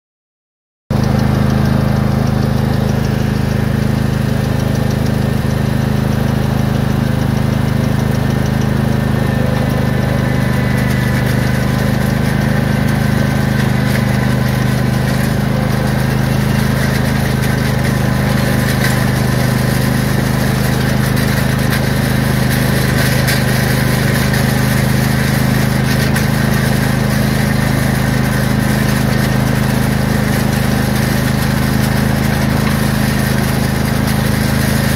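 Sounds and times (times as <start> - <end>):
lawn tractor engine running: 0.9 - 34.9
gravel scraping and rattling: 1.0 - 34.9.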